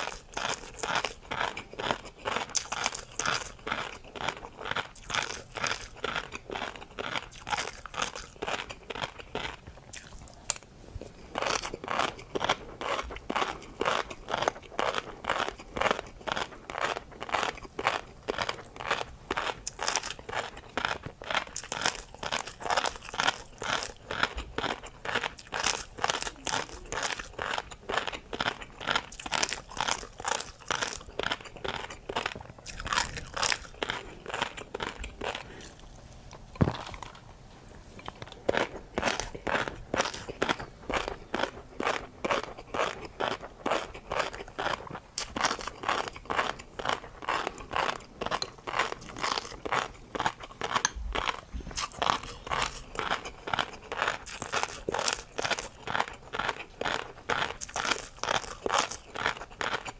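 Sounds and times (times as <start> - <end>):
crisp chewing crunches: 0.0 - 59.9.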